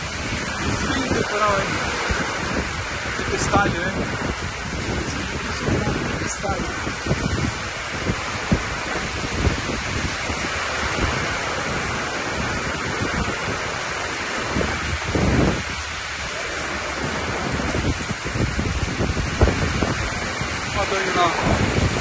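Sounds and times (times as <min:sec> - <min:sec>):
heavy rain pouring: 0:00.0 - 0:22.0
wind gusts on microphone: 0:00.0 - 0:22.0.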